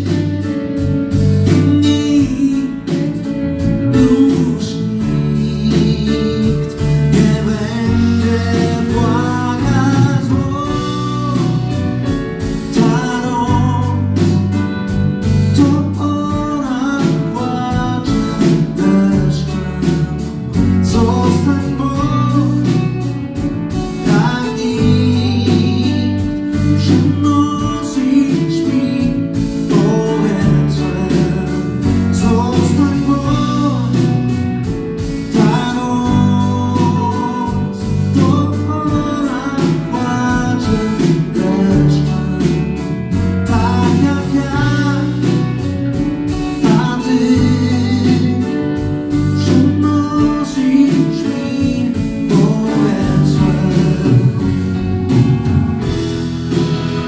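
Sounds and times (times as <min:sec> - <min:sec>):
live band playing slow song: 0:00.0 - 0:57.0.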